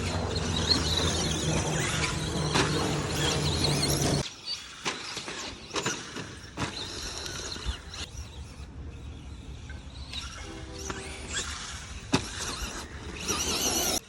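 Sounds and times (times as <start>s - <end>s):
high whines: 0.0s - 14.0s
radio-controlled car: 0.0s - 14.0s.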